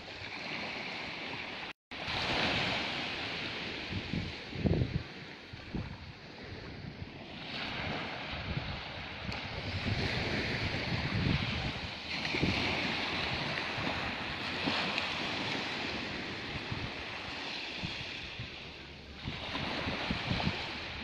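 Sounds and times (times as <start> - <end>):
sea waves washing: 0.0 - 21.0
wind buffeting microphone: 0.0 - 21.0.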